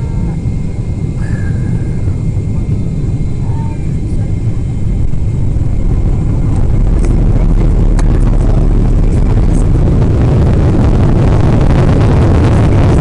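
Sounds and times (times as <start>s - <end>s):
airplane cabin low rumble: 0.0s - 13.0s
rushing noise: 1.1s - 13.0s.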